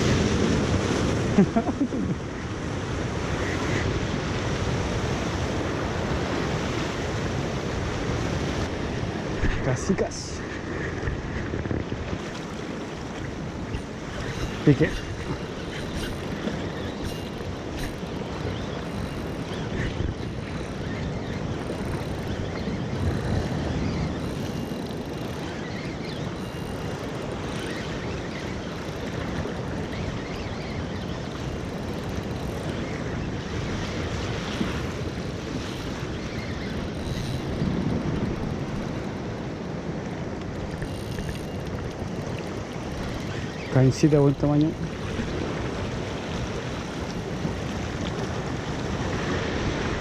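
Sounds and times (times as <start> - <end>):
surf washing against rocks: 0.0 - 50.0
wind buffeting microphone: 0.0 - 50.0.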